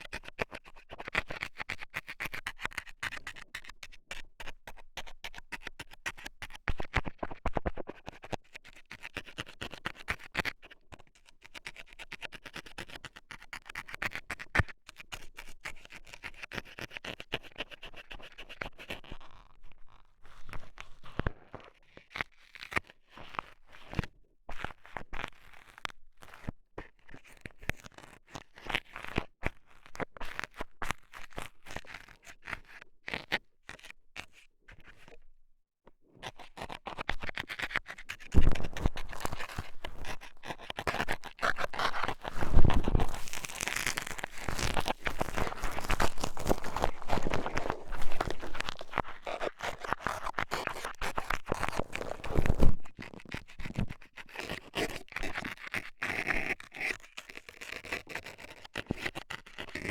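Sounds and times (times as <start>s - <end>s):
scraping and clicks on microphone: 0.1s - 35.3s, 35.9s - 59.9s.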